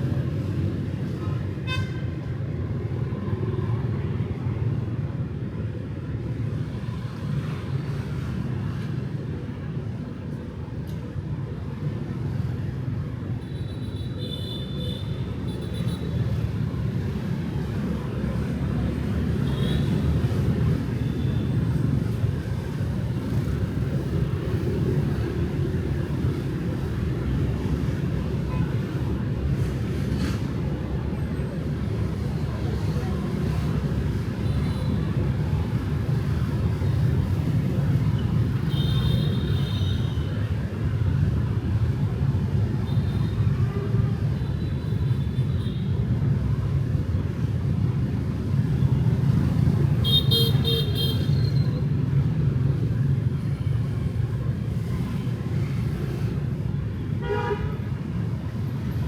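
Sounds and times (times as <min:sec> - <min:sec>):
traffic passing: 0:00.0 - 0:59.0.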